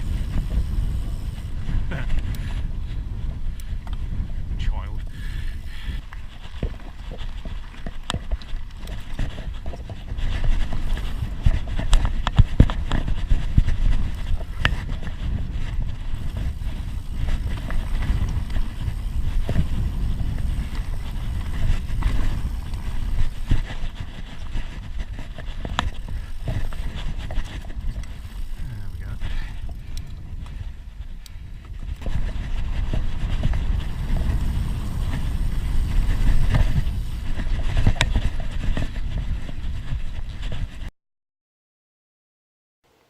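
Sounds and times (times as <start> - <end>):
bike clicks and knocks: 0.0 - 4.3, 5.6 - 40.5
bike rumbling over rough ground: 0.0 - 40.9.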